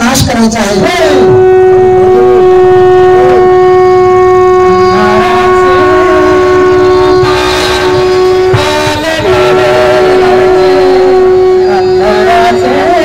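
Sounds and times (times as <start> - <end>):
conch shell blown: 0.8 - 13.0.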